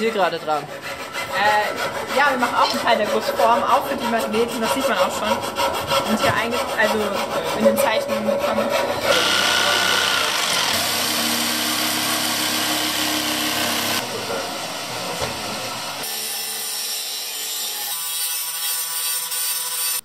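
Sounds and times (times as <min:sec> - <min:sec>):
jigsaw sawing through plywood: 0:00.6 - 0:18.0
angle grinder cutting steel: 0:00.7 - 0:20.0.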